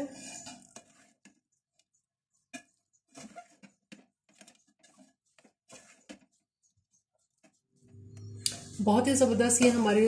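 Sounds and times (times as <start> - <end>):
metal spatula scraping a pot: 0.0 - 10.0.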